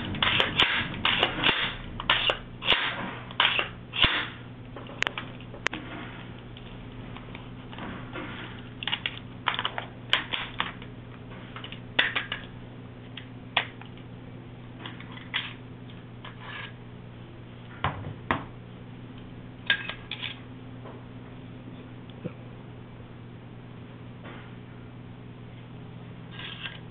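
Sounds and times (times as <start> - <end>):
low hum: 0.0 - 26.9.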